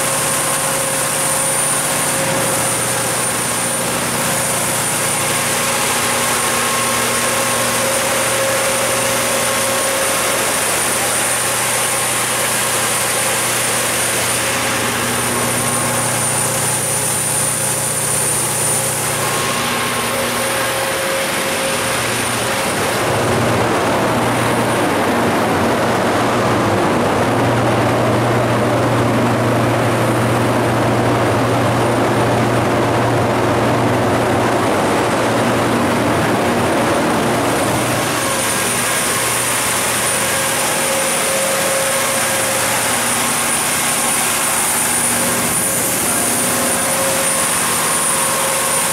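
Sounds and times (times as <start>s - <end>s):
generator engine running: 0.0s - 48.9s.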